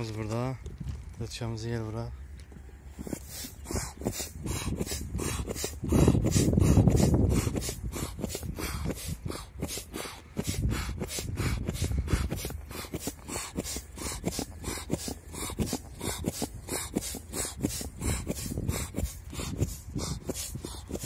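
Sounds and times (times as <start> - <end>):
air pump hissing pulses: 2.9 - 21.0.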